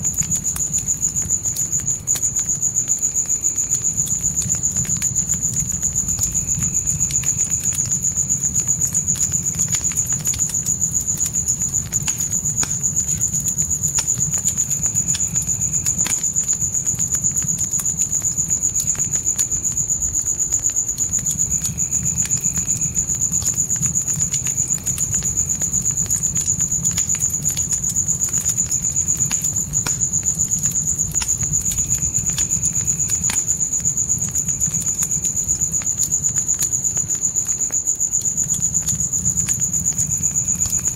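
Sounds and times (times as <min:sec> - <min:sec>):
crickets chirping: 0:00.0 - 0:40.9
fire crackling and popping: 0:00.0 - 0:40.9
low rumble of flames: 0:00.0 - 0:40.9.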